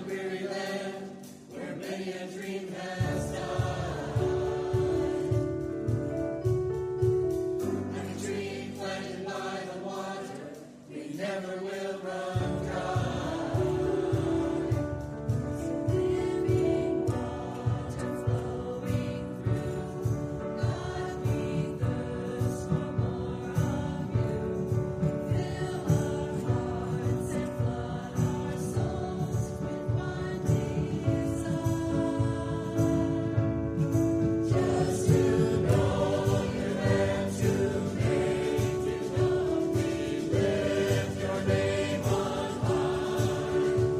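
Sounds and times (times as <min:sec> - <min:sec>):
choir singing: 0:00.0 - 0:43.9
instrumental accompaniment with beat: 0:00.0 - 0:43.9.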